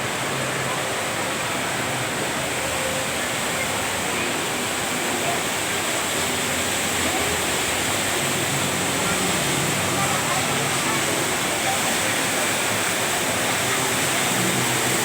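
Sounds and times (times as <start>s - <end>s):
indoor waterfall rushing: 0.0s - 15.0s.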